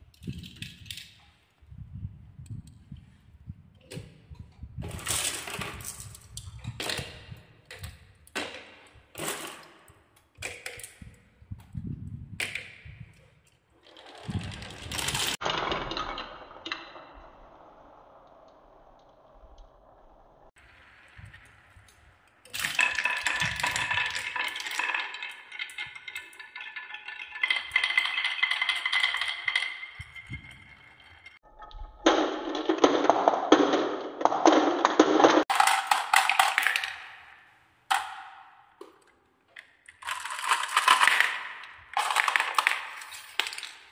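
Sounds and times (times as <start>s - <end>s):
marbles clattering on wooden tracks: 0.0s - 19.3s, 20.5s - 43.9s.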